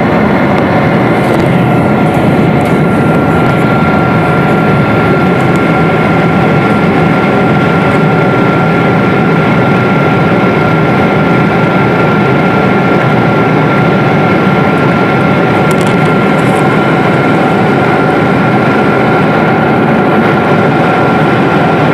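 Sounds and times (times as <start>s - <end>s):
jet engines heard inside cabin: 0.0s - 21.9s.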